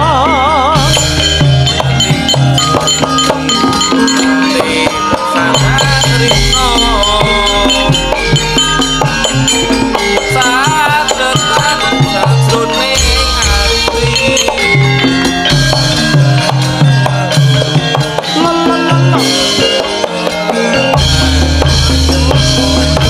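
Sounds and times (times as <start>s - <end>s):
drum and percussion strokes: 0.0s - 23.0s
metallophone notes: 0.0s - 23.0s
person singing ornamented lines: 0.0s - 23.0s.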